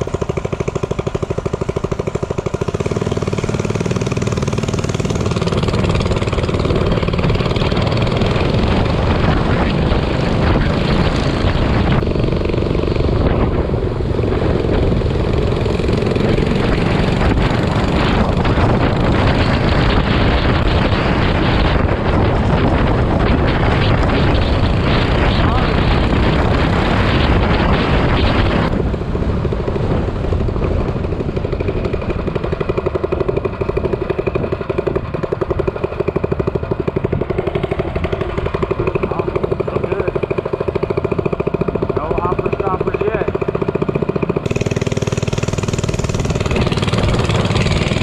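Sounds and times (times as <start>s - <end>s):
minibike engine puttering: 0.0s - 48.0s.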